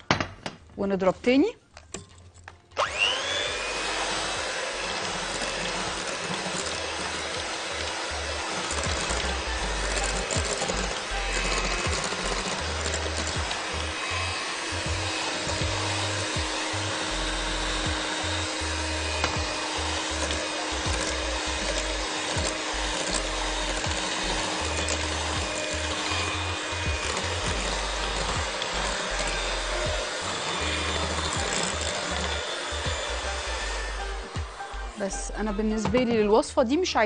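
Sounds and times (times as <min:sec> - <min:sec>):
electric hand mixer whirring: 0:02.8 - 0:37.0.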